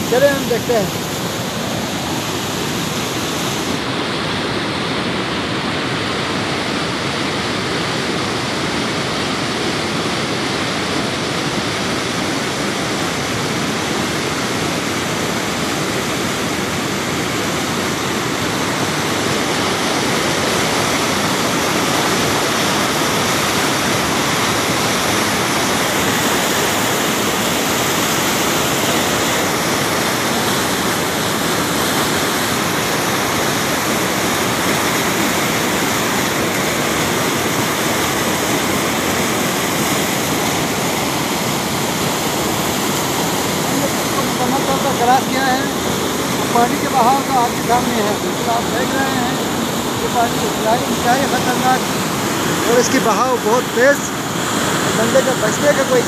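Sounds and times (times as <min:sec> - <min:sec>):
river rushing through rapids: 0:00.0 - 0:56.0.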